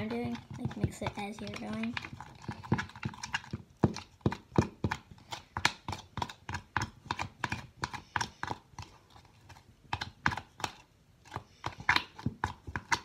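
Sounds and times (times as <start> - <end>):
spoon scraping plastic bowl: 0.0 - 13.0.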